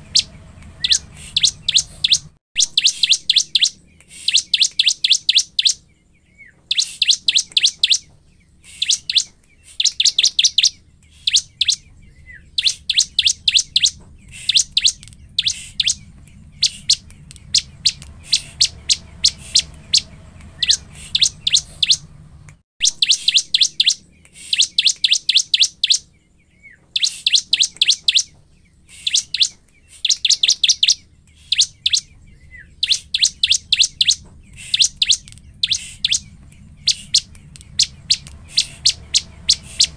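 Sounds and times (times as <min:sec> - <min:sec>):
bird chattering song: 0:00.0 - 0:22.2, 0:22.8 - 0:39.9.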